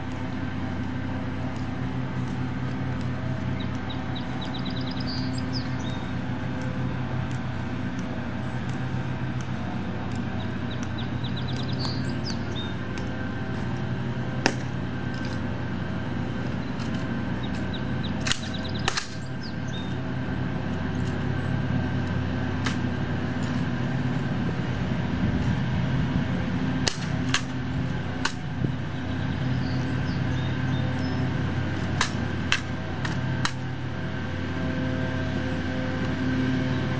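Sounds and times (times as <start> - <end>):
low hum: 0.0 - 36.9.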